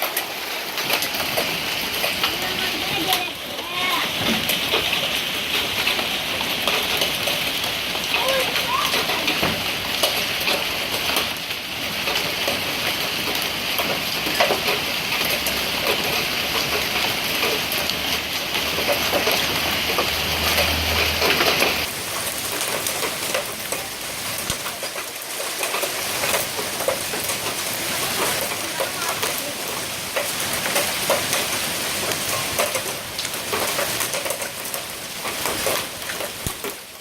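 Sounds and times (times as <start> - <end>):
hailstones pattering on hard surfaces: 0.0 - 37.0.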